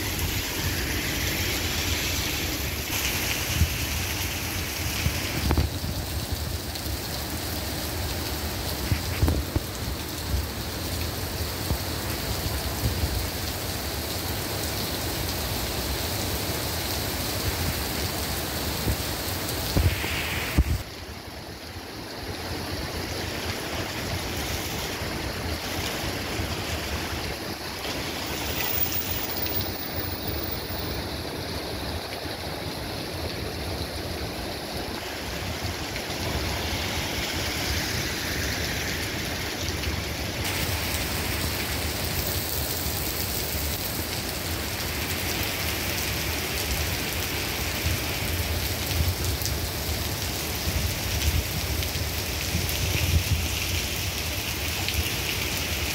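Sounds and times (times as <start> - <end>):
heavy rain on wet street: 0.0 - 55.9.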